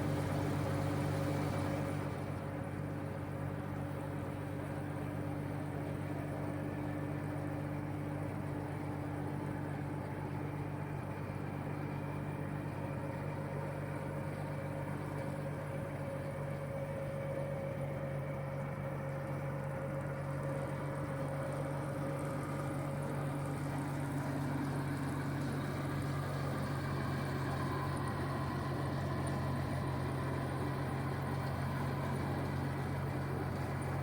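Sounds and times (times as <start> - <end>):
combine engine drone: 0.0 - 34.0.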